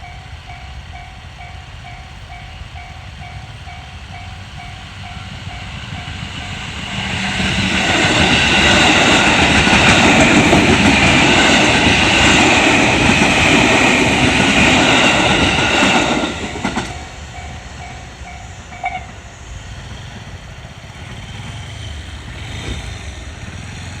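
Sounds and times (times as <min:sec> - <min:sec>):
crossing warning bell ringing: 0:00.0 - 0:19.4
train wheels clattering over rail joints: 0:04.1 - 0:24.0.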